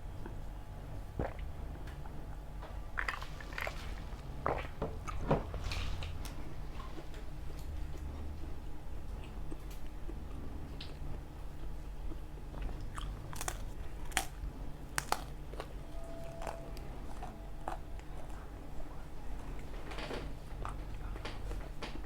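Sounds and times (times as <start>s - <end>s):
chewing pizza: 0.0s - 22.0s
steady low hum: 0.0s - 22.0s.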